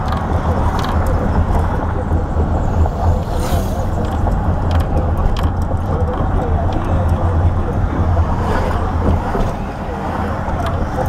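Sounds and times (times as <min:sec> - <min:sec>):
car road noise rumble: 0:00.0 - 0:11.0.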